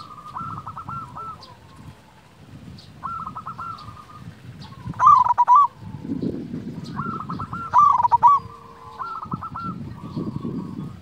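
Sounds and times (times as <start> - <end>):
dove cooing: 0.0 - 2.4, 3.0 - 11.0.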